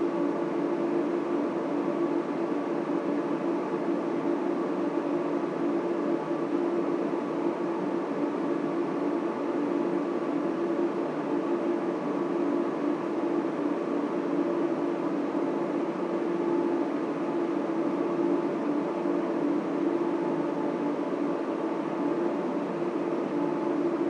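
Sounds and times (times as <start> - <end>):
constant low hum: 0.0 - 24.0
cooling fans whirring: 0.0 - 24.0.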